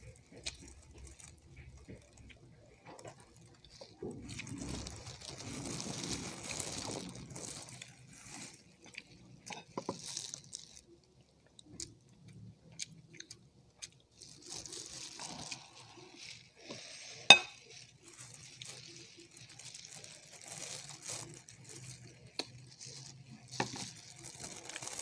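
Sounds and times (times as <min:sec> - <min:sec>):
biting and chewing: 0:00.0 - 0:11.0, 0:11.6 - 0:25.0.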